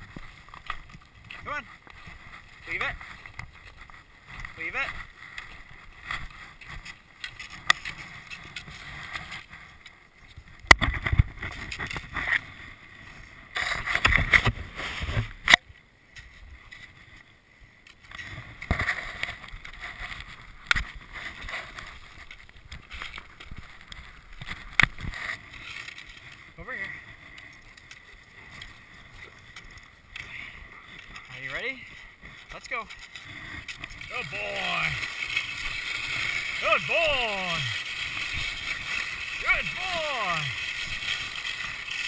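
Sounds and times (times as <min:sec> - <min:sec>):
skis scraping: 0:00.0 - 0:15.4, 0:16.3 - 0:42.0
skis swishing over snow: 0:00.0 - 0:15.4, 0:18.2 - 0:42.0.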